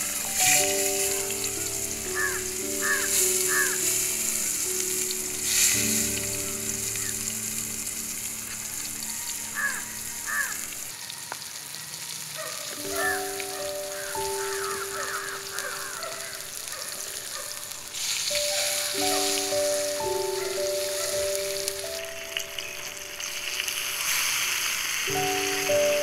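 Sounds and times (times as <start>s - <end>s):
soft background music: 0.0s - 10.9s, 12.6s - 26.0s
meat sizzling in a frying pan: 0.0s - 26.0s.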